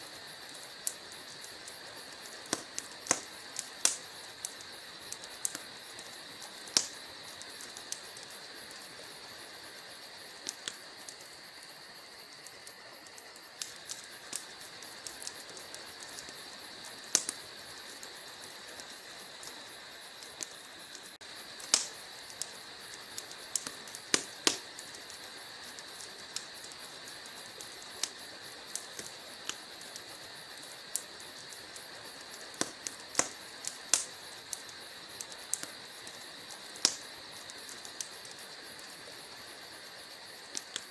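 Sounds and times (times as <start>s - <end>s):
logs crackling in fireplace: 0.0s - 40.9s
soft fire hiss: 0.0s - 40.9s.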